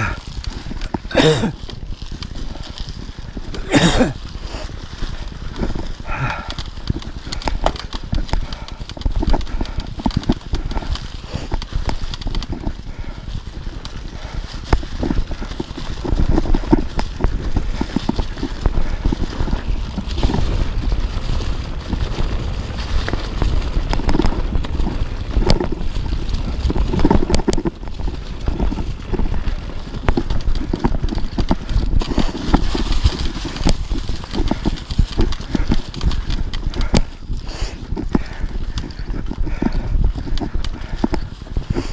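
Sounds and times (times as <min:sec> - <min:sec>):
bike frame rattling: 0:00.0 - 0:41.9
bike tyres rolling over leaves: 0:00.0 - 0:41.9
wind on microphone: 0:00.0 - 0:41.9.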